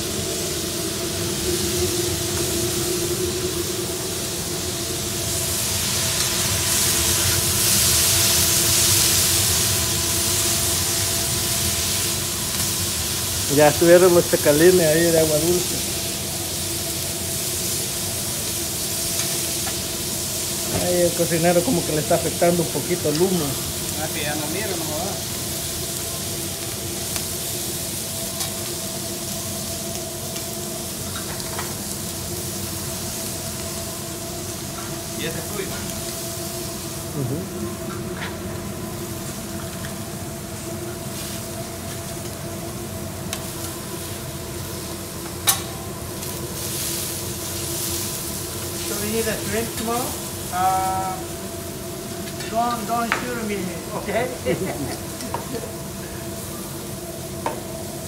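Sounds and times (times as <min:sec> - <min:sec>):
liquid hissing on hot metal: 0:00.0 - 0:58.0
shrimp sizzling on griddle: 0:00.0 - 0:58.0.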